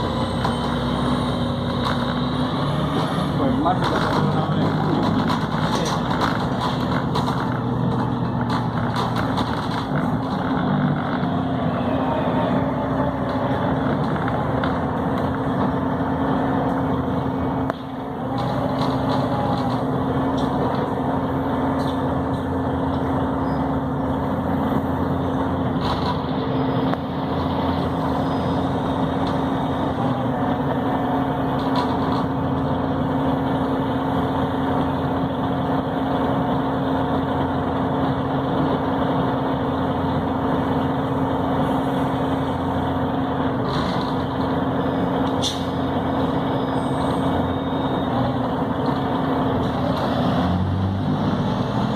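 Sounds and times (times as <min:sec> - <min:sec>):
bus engine droning: 0:00.0 - 0:51.9
road noise: 0:00.0 - 0:51.9.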